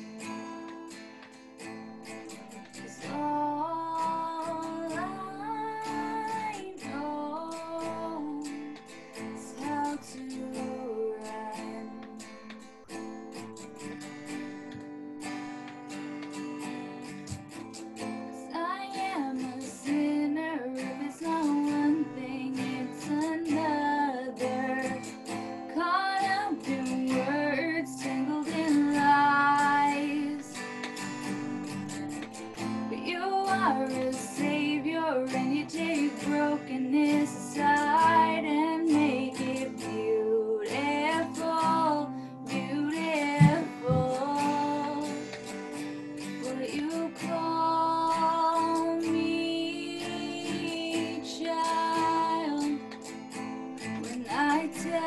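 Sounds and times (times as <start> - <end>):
woman singing: 0.0 - 1.0, 2.5 - 12.8, 18.2 - 55.0
acoustic guitar strumming: 0.0 - 55.0.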